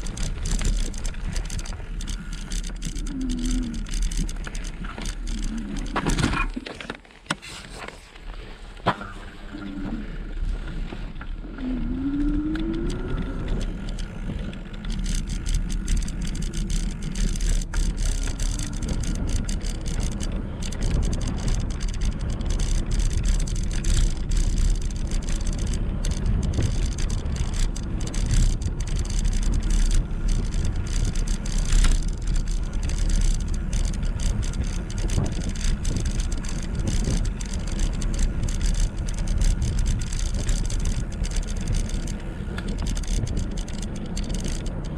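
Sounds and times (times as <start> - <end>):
small clicks and rattles: 0.0 - 8.9, 9.5 - 44.9
wind and tyre noise: 0.0 - 44.9.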